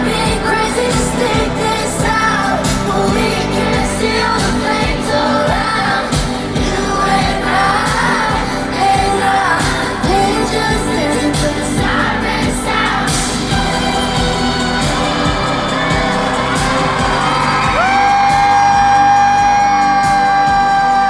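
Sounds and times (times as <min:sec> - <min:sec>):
backing track with heavy bass: 0:00.0 - 0:21.0
woman singing: 0:00.0 - 0:21.0.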